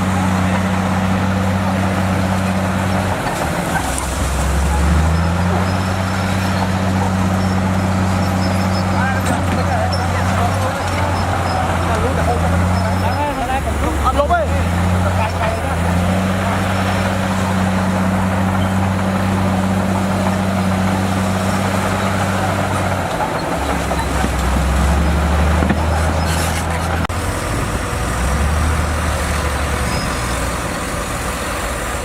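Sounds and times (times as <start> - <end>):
heavy machine diesel engine running: 0.0 - 32.0.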